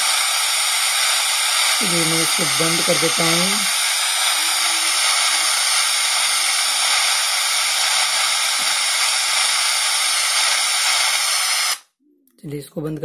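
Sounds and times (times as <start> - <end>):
radio static hiss: 0.0 - 11.8.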